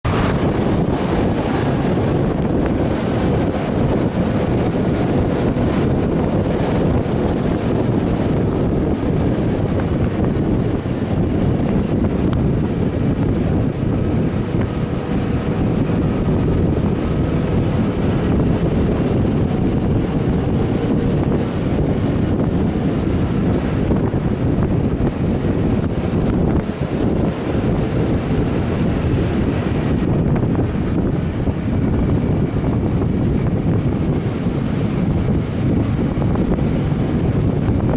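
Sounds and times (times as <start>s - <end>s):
motorcycle engine hum: 0.0s - 37.9s
wind buffeting microphone: 0.0s - 37.9s.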